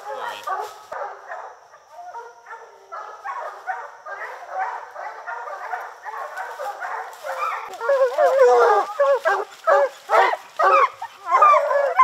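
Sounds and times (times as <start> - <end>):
hounds baying and barking: 0.0 - 12.0.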